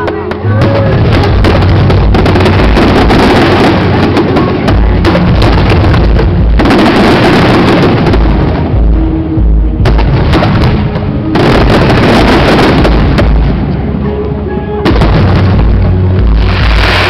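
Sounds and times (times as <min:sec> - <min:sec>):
fireworks bursting with bangs: 0:00.0 - 0:14.0, 0:14.8 - 0:17.0
fireworks crackling: 0:00.0 - 0:14.0, 0:14.9 - 0:17.0.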